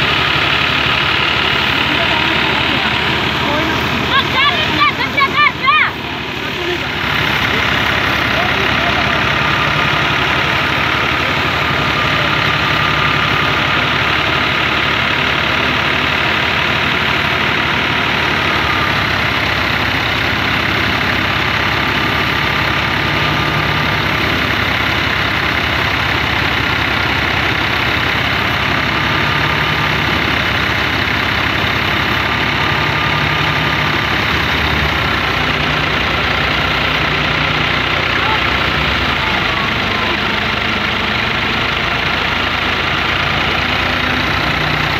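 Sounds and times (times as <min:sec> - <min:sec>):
thresher rushing whir: 0:00.0 - 0:44.9
tractor diesel engine running: 0:00.0 - 0:44.9.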